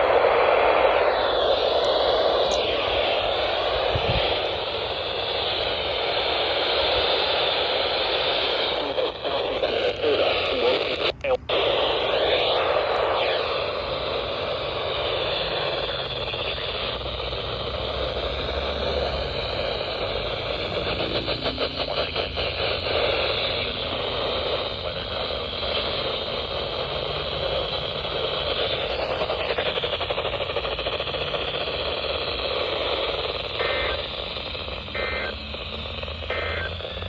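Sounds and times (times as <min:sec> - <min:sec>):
radio static and hiss: 0:00.0 - 0:37.0.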